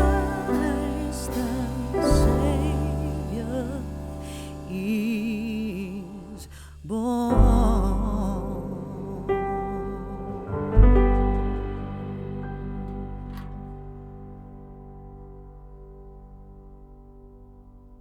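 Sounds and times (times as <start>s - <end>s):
slow melody with vibrato: 0.0s - 16.4s
low bass notes: 0.0s - 18.0s.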